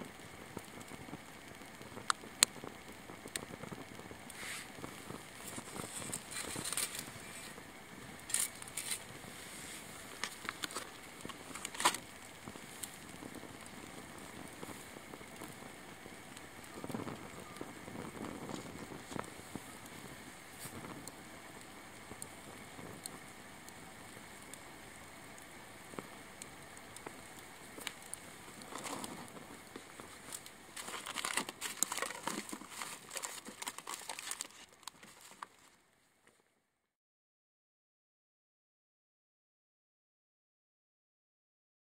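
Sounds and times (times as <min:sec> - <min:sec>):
wood fire crackling and popping: 0:00.0 - 0:35.9
faint fire hiss: 0:00.0 - 0:36.6.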